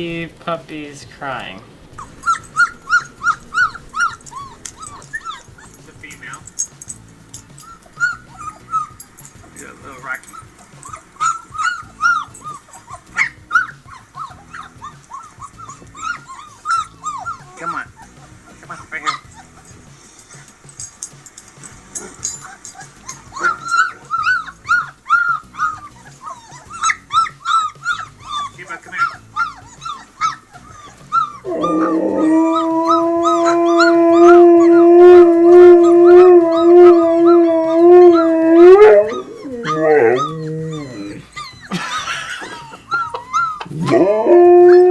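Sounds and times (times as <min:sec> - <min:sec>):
faint background music: 0:00.0 - 0:44.9
puppies whimpering: 0:00.0 - 0:44.9
dog howling: 0:01.2 - 0:20.8, 0:21.9 - 0:44.9.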